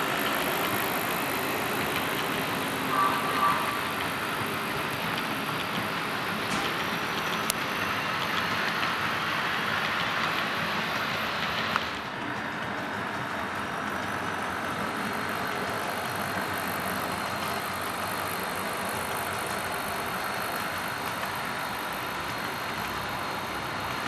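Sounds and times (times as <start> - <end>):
model train wheels rolling on track: 0.0 - 24.0.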